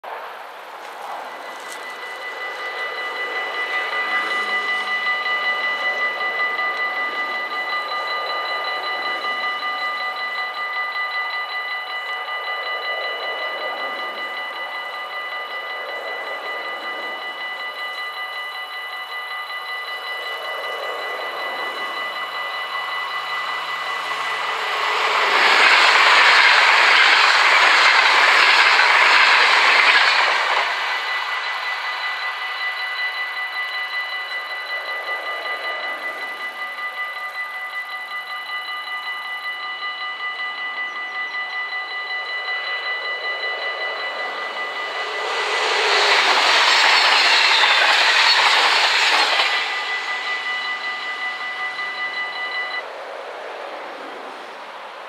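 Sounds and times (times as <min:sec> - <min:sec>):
electric train passing at speed: 0:00.0 - 0:55.0
level crossing bells ringing: 0:00.6 - 0:52.8.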